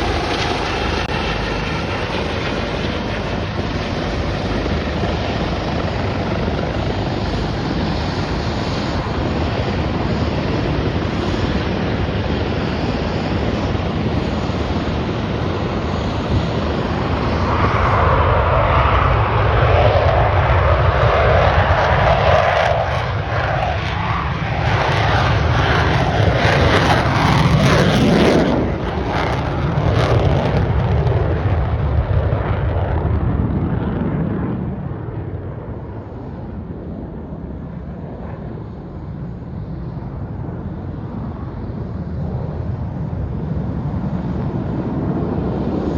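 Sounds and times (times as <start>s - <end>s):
aircraft engines running: 0.0s - 45.9s.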